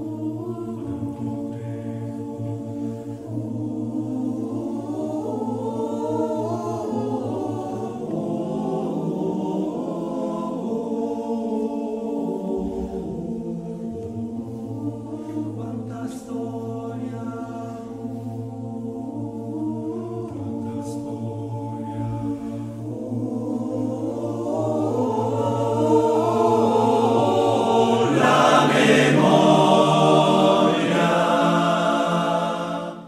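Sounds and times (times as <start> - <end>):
male choir singing: 0.0 - 33.0.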